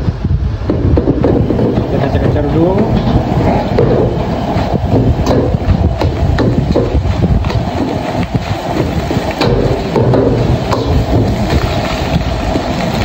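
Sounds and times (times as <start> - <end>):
gas burner rumbling: 0.0 - 13.0.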